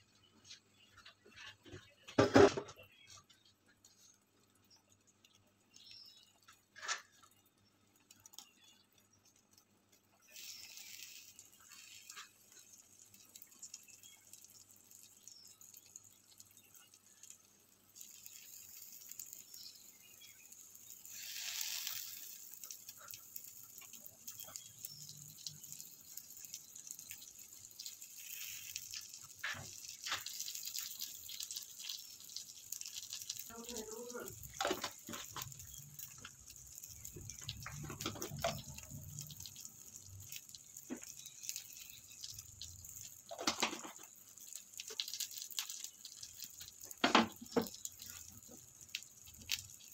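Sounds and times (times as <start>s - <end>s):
egg sizzling in frying pan: 3.5s - 49.9s.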